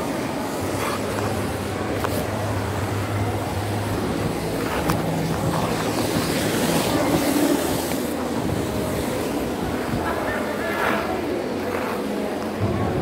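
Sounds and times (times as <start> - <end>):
steady dense noise: 0.0 - 13.0.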